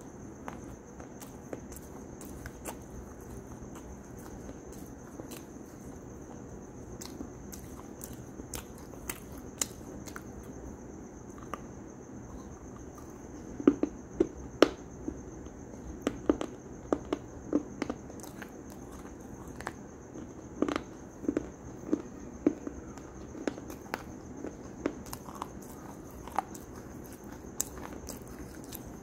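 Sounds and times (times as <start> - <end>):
crunchy snack chewing: 0.4 - 10.7, 15.8 - 29.0.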